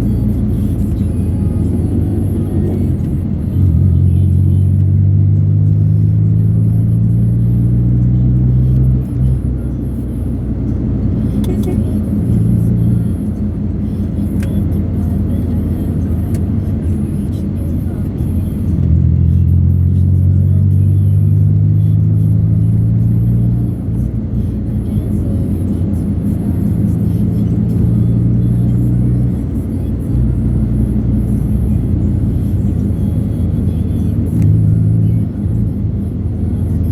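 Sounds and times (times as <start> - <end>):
road noise rumble: 0.0 - 36.9
vehicle engine running: 0.0 - 36.9.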